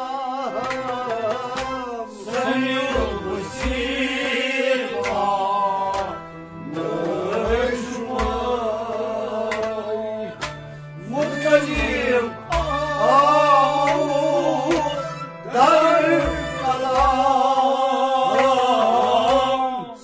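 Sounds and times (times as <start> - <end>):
man singing: 0.0 - 10.4, 11.0 - 20.0
harmonium playing: 0.0 - 20.0.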